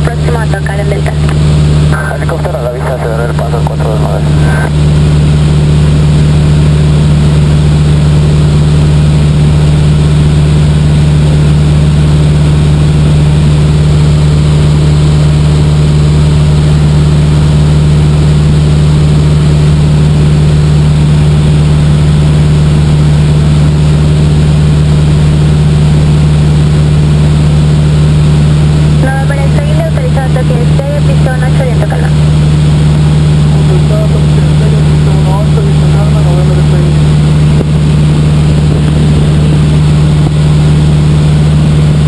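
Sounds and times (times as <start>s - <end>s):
small plane engine droning: 0.0s - 42.0s.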